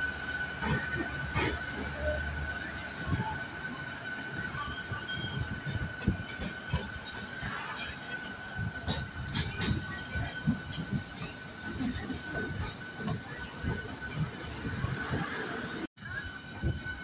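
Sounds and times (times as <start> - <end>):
train coach rumbling: 0.0 - 17.0.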